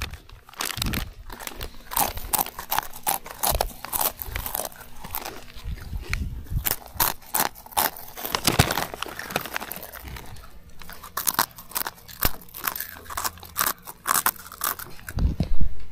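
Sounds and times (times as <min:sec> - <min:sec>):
children chewing crunchy snacks: 0:00.0 - 0:15.5.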